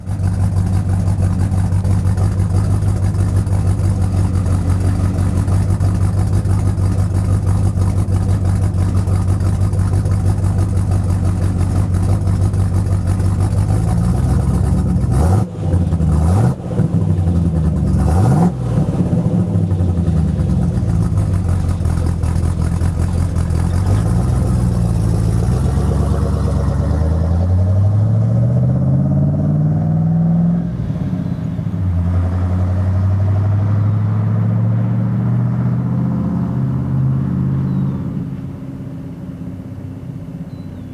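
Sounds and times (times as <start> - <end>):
truck engine idling and revving: 0.0 - 40.9.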